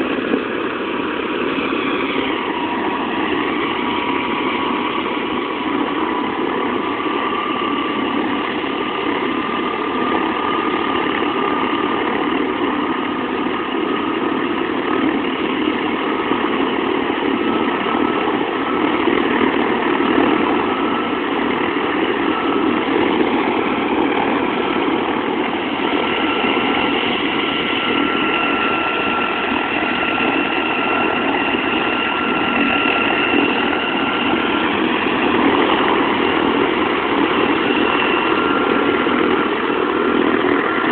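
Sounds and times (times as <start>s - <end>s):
helicopter engine running: 0.0s - 40.9s
high turbine whine: 0.0s - 40.9s.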